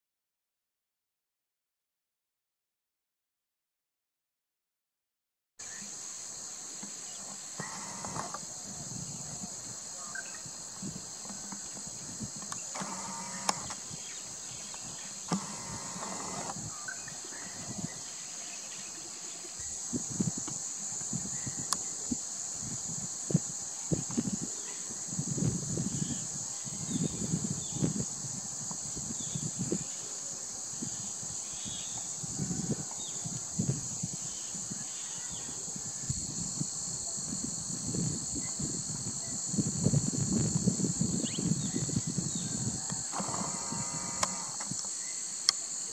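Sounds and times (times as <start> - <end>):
insects droning: 5.6 - 45.9.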